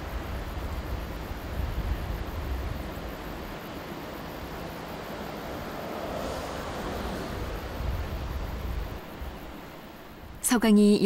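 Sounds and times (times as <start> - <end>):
wind rumble on microphone: 0.0 - 10.4
river flowing: 0.0 - 10.5.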